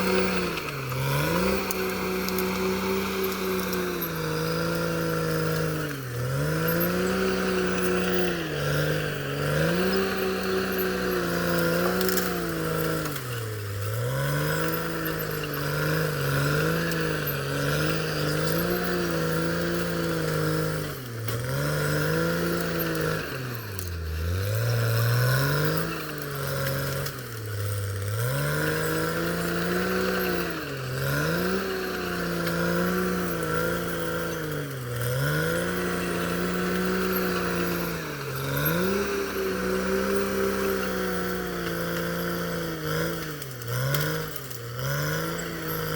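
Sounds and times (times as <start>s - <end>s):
bulldozer diesel engine labouring: 0.0s - 45.9s.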